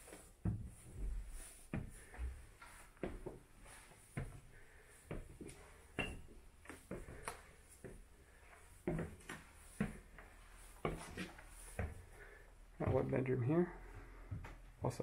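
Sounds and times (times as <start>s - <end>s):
footsteps on wooden stairs: 0.0s - 13.3s, 14.0s - 14.6s.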